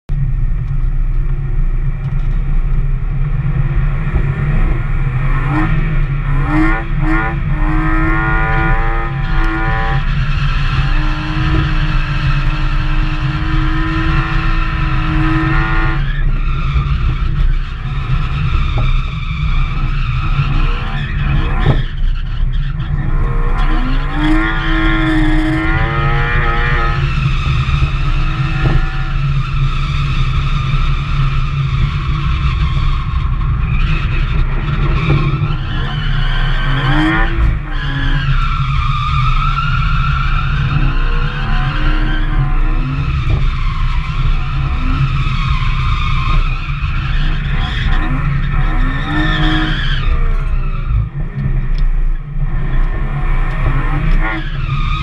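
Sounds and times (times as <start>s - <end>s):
heavy low rumble: 0.1s - 55.0s
tyres skidding: 1.8s - 55.0s
car engine revving hard: 3.3s - 55.0s.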